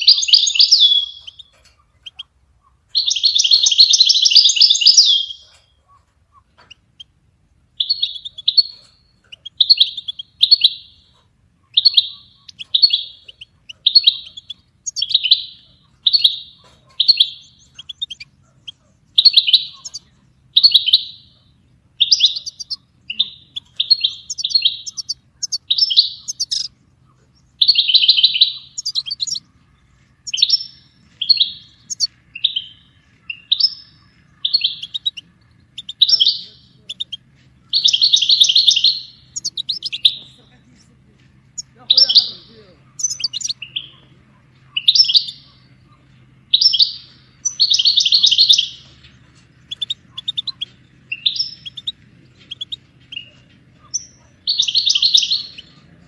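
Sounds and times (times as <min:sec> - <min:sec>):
goldfinch singing: 0:00.0 - 0:56.0.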